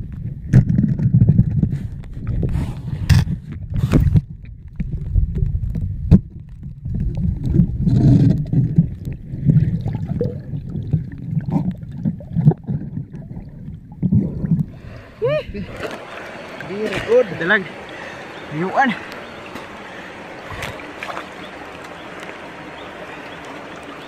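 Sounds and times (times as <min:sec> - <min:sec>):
underwater churning and bubbling: 0:00.0 - 0:24.0.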